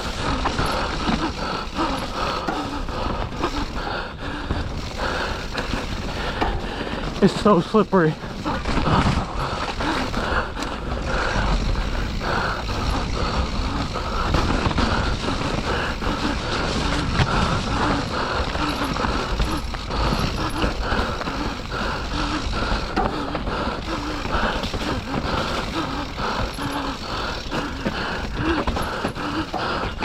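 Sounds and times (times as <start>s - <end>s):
bike knocking and rattling: 0.0s - 30.0s
bike tyres rolling in mud: 0.0s - 30.0s.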